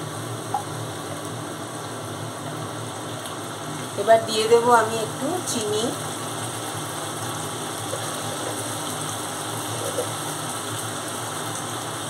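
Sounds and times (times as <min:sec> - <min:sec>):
gravy sizzling in a pan: 0:00.0 - 0:12.0.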